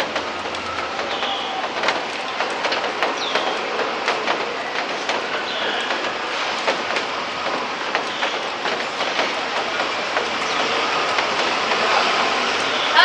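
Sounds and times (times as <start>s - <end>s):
drops ticking on hard surfaces: 0.0s - 12.8s
steady rain falling: 0.0s - 13.0s.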